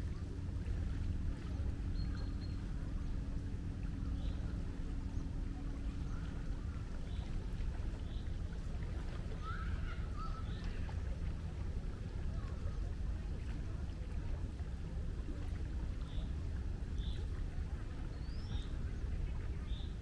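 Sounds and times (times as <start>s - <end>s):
waves rumbling: 0.0s - 20.0s
wind: 0.0s - 20.0s.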